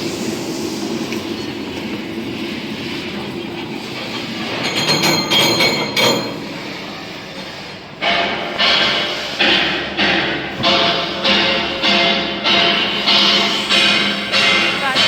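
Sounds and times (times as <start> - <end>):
hammer mill crusher rumbling: 1.3 - 15.0.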